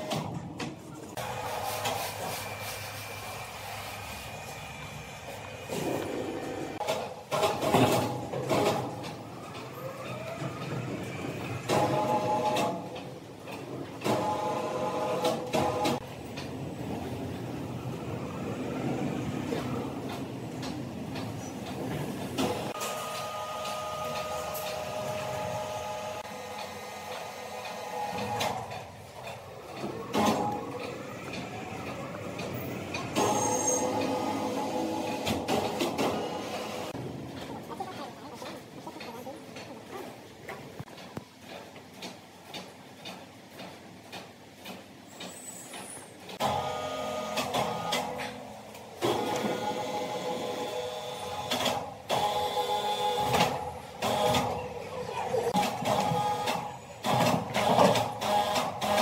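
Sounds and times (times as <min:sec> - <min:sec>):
sawmill machinery running: 0:01.1 - 0:38.4, 0:46.2 - 0:59.0.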